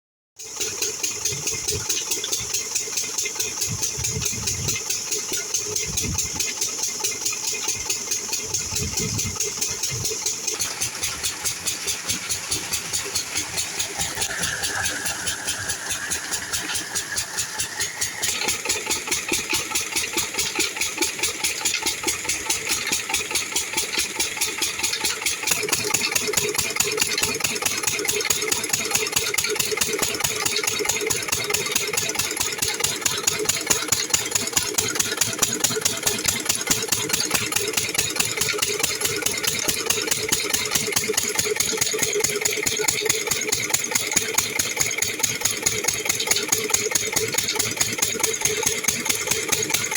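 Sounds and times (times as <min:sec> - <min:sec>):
water pump engine running: 0:00.4 - 0:49.9.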